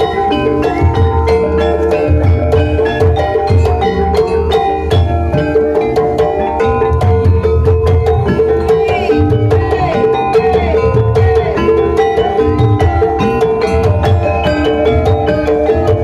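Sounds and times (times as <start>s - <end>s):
metallophones ringing melody: 0.0s - 16.0s
steady drum beats: 0.0s - 16.0s.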